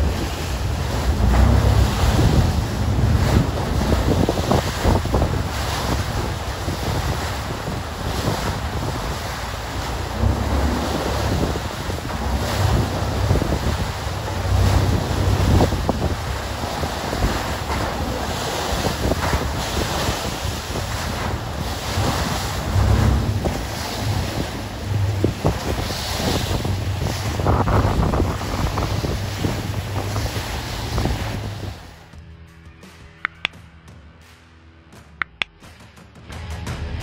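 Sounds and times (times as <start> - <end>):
churning sea water and spray: 0.0 - 32.1
wind buffeting microphone: 0.0 - 32.1.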